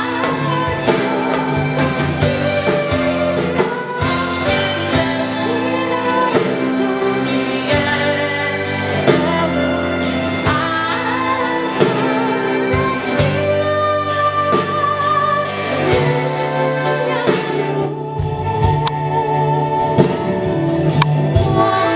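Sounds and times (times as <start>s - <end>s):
rock band playing live: 0.0s - 21.9s.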